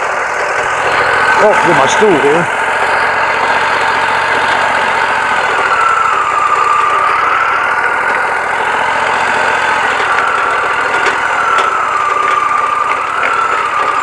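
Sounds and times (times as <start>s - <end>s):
band sawmill whine: 0.0s - 14.0s
engine noise: 0.0s - 14.0s.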